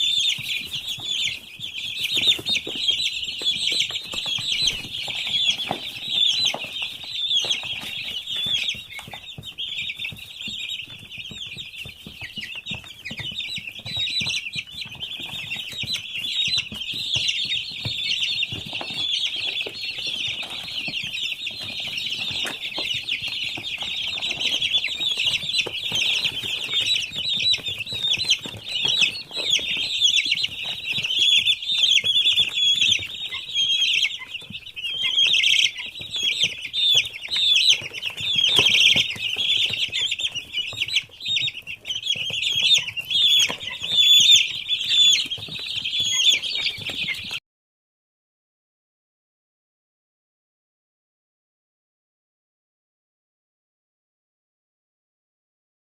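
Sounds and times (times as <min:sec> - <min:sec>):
birds rustling and knocking: 0:00.0 - 0:47.4
chicks cheeping: 0:00.0 - 0:47.4.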